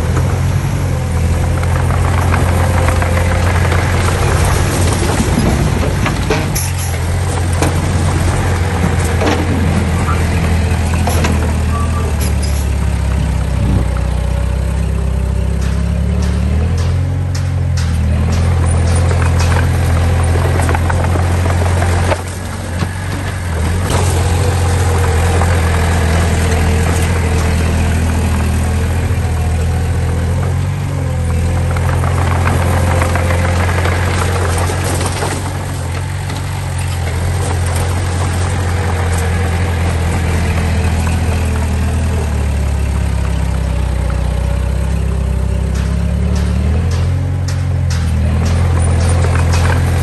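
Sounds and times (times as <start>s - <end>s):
diesel engine of heavy machinery: 0.0s - 50.0s.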